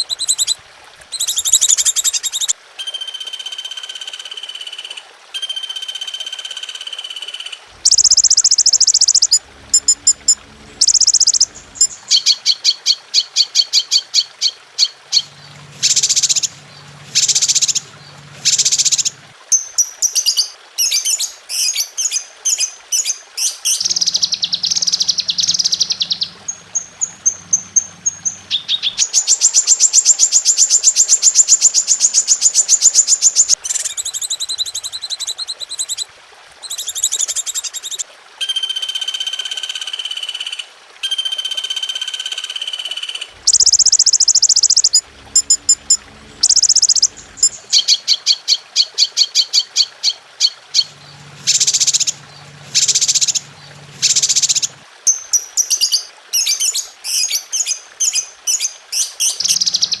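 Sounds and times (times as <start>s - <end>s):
songbird calls and songs: 0.0s - 36.0s, 36.6s - 60.0s.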